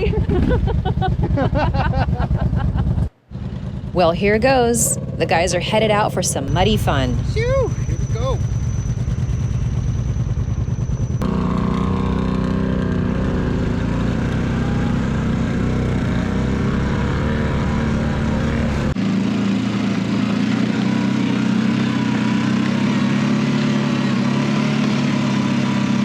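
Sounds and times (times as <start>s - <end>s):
atv engines revving: 0.0s - 26.0s.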